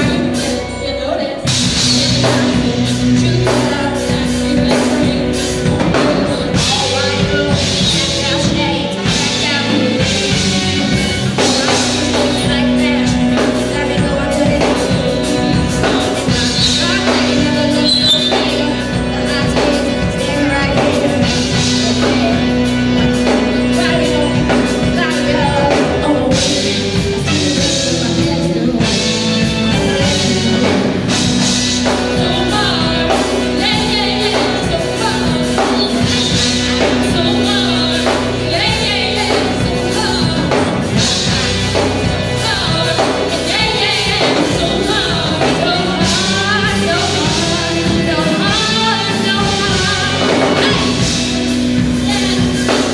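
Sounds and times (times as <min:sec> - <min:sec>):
gospel band playing: 0:00.0 - 0:52.9
person singing: 0:00.0 - 0:52.9.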